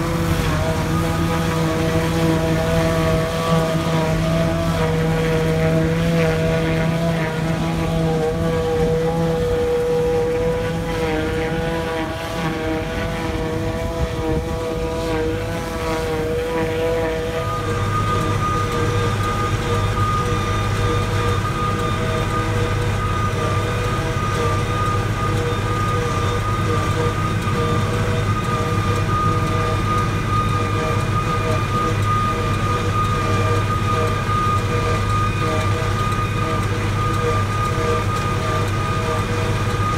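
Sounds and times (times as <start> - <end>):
forage harvester drone and whine: 0.0 - 39.9
tractor engine wavering: 0.0 - 39.9.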